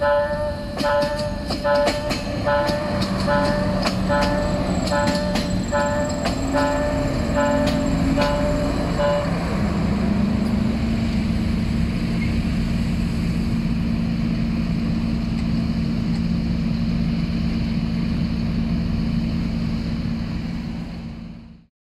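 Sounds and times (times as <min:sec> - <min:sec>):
diesel train engines droning: 0:00.0 - 0:21.7.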